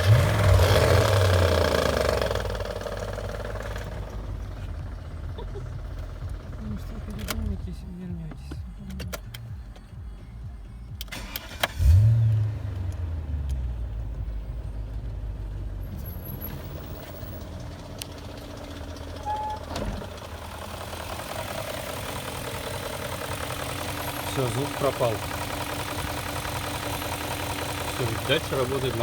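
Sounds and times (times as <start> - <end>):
car engine starting and idling: 0.0 - 29.0.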